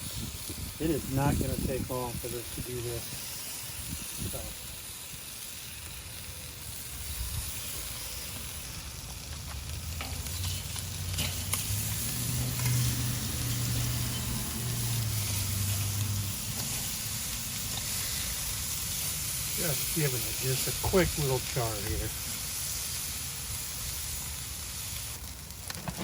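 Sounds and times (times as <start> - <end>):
chicken sizzling on a grill: 0.0 - 26.0.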